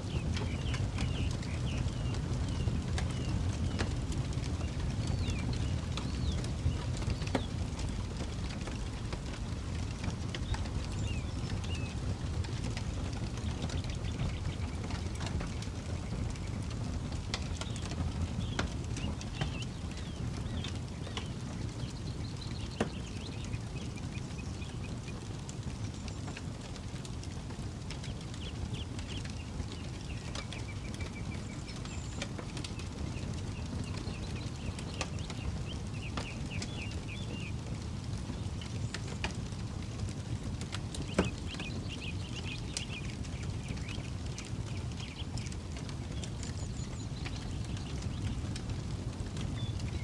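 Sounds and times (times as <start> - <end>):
birds chirping: 0.0 - 50.0
campfire crackling: 0.0 - 50.0.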